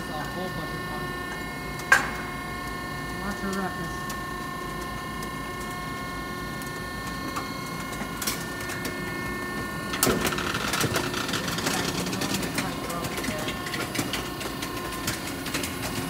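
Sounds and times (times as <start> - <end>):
hydraulic baler motor humming: 0.0 - 16.0.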